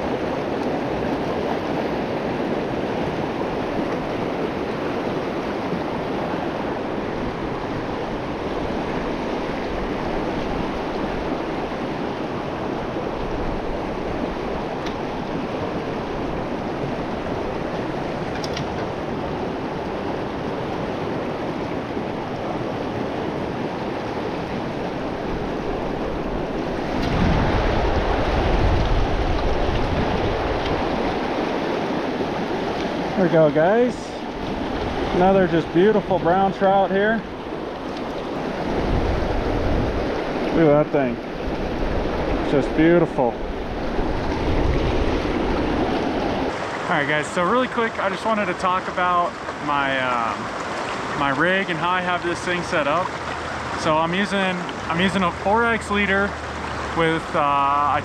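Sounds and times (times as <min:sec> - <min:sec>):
wind buffeting microphone: 0:00.0 - 0:46.8
river water flowing over rocks: 0:00.0 - 0:58.0.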